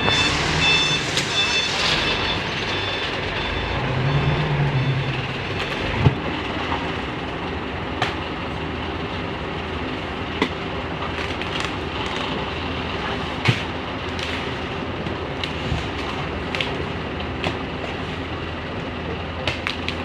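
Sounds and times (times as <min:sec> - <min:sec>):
diesel machinery engines running: 0:00.0 - 0:20.0.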